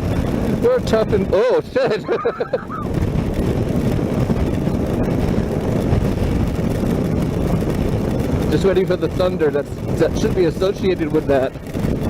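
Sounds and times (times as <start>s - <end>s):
motorcycle road noise: 0.0s - 12.0s
wind rush: 0.0s - 12.0s.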